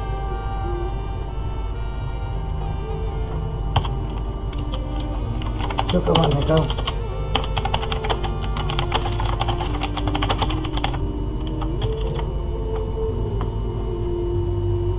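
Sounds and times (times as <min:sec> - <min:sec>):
low tone shifting pitch: 0:00.0 - 0:14.9.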